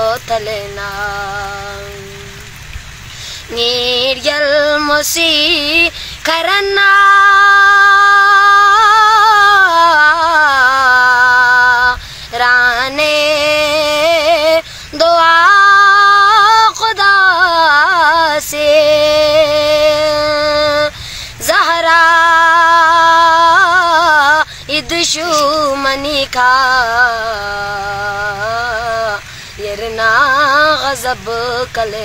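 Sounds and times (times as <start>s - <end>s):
boy singing solo: 3.4s - 32.0s.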